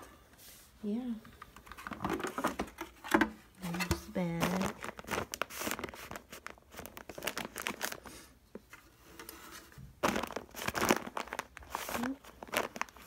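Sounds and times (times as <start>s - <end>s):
paper bag crinkling and rustling: 1.7s - 13.0s.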